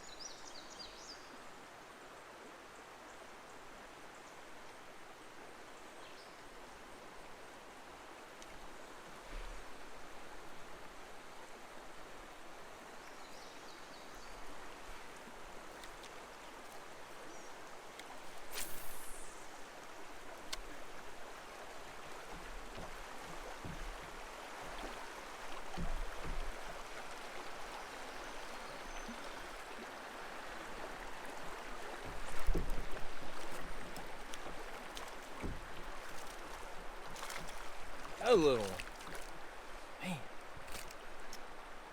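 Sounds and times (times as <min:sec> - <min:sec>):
creek water running: 0:00.0 - 0:41.9.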